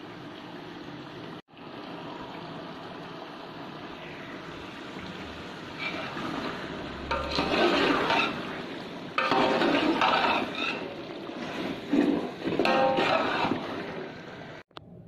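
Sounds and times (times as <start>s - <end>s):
curry bubbling in a pot: 0.5s - 14.3s.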